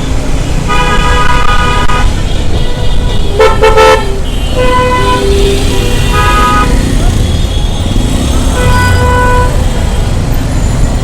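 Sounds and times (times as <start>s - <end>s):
low road rumble: 0.0s - 11.0s
vehicle horns honking: 0.6s - 9.6s.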